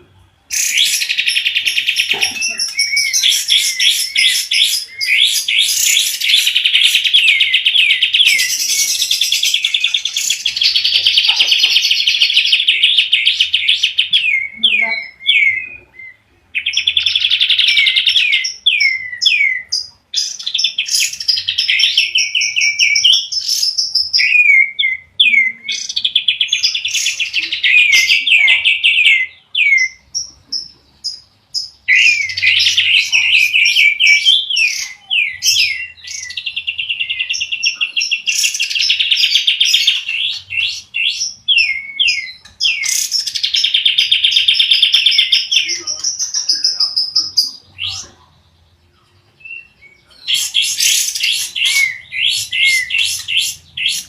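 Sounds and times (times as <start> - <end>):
songbirds trilling and chirping: 0.0 - 54.0.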